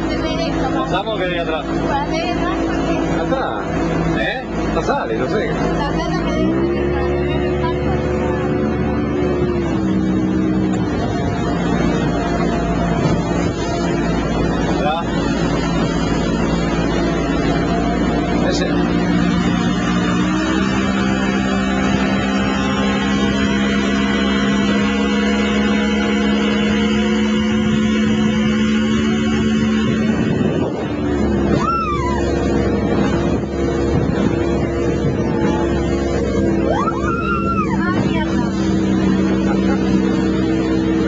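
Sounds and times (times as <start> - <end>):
motorboat engine running: 0.0 - 41.0
water and hull noise: 0.0 - 41.0.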